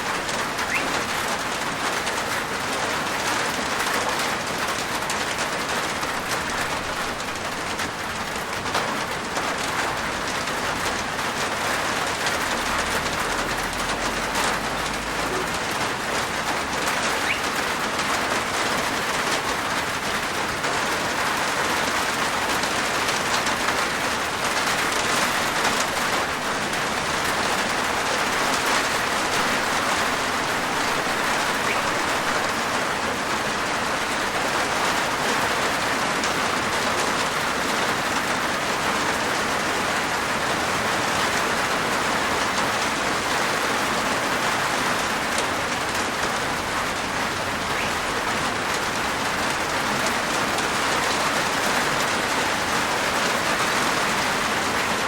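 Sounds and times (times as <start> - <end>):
rain on a rooftop: 0.0 - 55.0.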